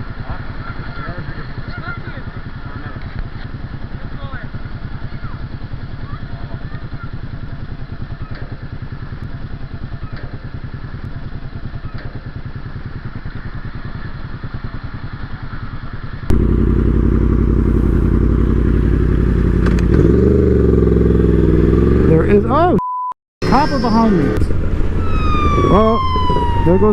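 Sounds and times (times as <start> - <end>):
loud motorcycle engine running: 0.0 - 22.7, 23.4 - 26.9
motorcycle engine idling: 0.0 - 22.7.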